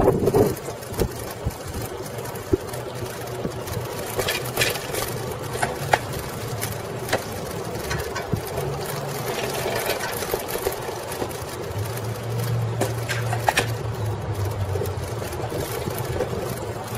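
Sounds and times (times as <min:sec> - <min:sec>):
bicycle tyres rolling on pavement: 0:00.0 - 0:16.9
bike clicks and rattles: 0:00.0 - 0:16.9.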